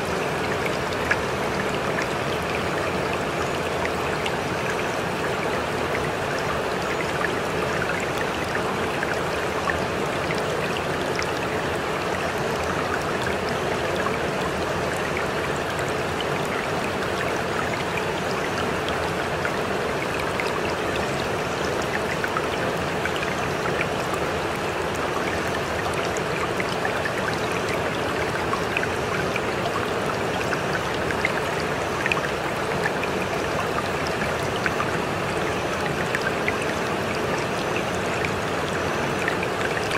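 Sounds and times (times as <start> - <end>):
faint drip-like ticks: 0.0 - 39.9
running water: 0.0 - 39.9.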